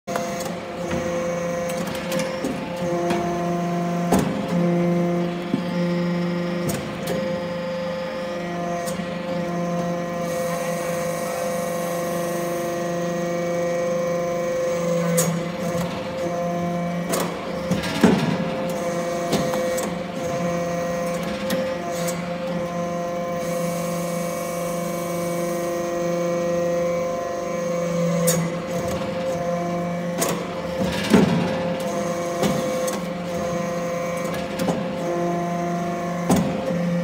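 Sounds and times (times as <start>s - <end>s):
hydraulic power unit hum: 0.1s - 37.0s.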